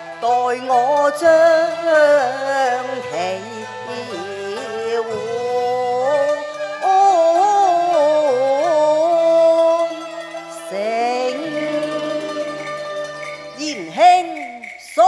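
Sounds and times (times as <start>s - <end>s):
opera singing: 0.0s - 12.9s, 13.5s - 15.0s
traditional instrumental accompaniment: 0.0s - 15.0s.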